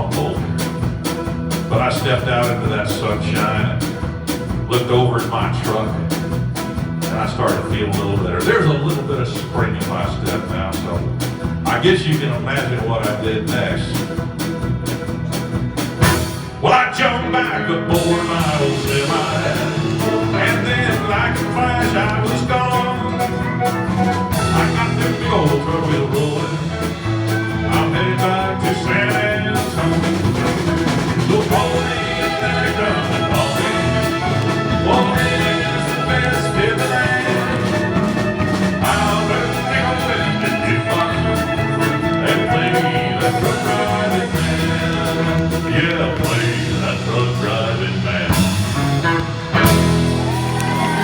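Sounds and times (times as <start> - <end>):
drum kit beat: 0.0 - 16.7, 18.0 - 51.0
live country band playing: 0.0 - 51.0.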